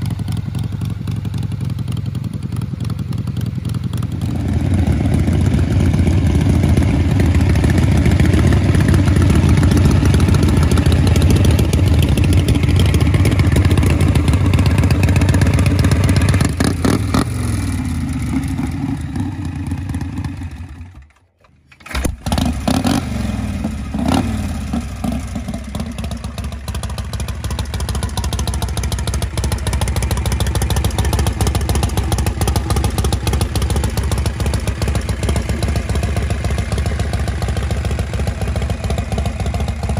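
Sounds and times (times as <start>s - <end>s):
motorcycle engines running loud: 0.0s - 21.0s, 22.3s - 39.9s.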